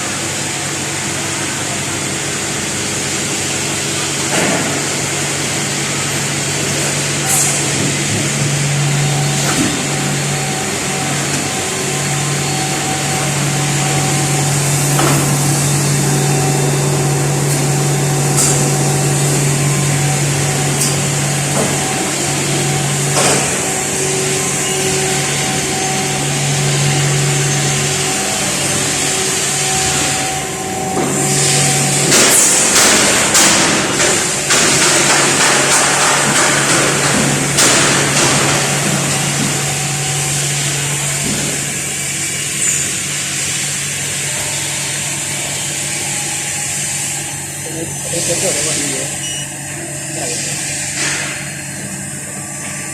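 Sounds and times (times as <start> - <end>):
machinery low hum: 0.0 - 52.9.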